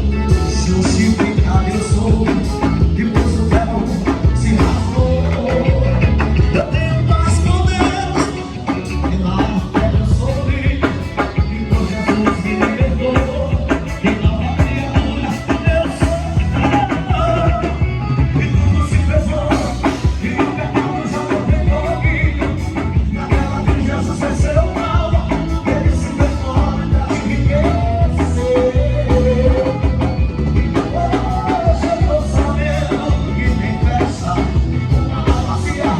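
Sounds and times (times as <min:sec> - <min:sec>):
drum kit: 0:00.0 - 0:35.9
live band music: 0:00.0 - 0:35.9
person singing: 0:00.0 - 0:35.9.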